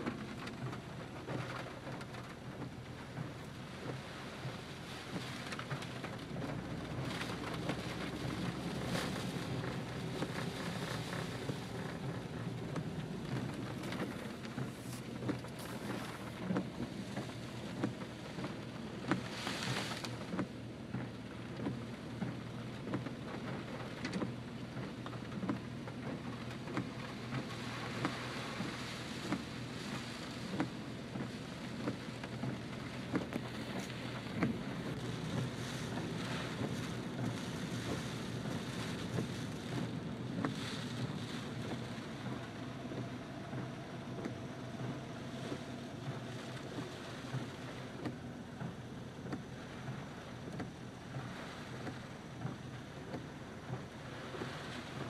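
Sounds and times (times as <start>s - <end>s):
heavy rain on a car: 0.0s - 55.0s.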